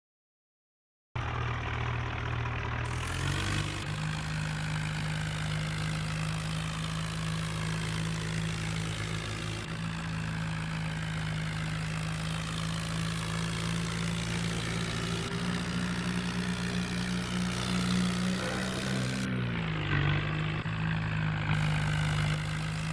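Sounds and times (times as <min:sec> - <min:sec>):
tractor engine running: 0:01.2 - 0:22.9.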